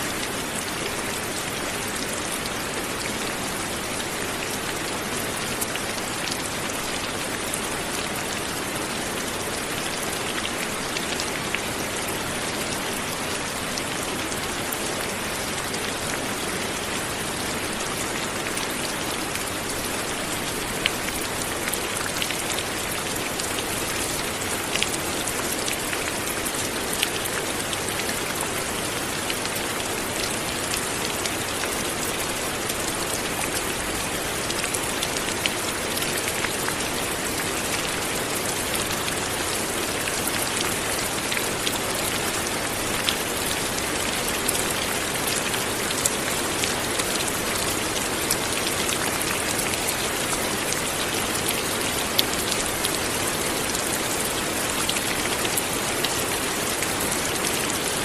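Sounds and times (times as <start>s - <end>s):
light rain pattering: 0.0s - 58.0s
raindrops ticking on a surface: 0.1s - 58.0s.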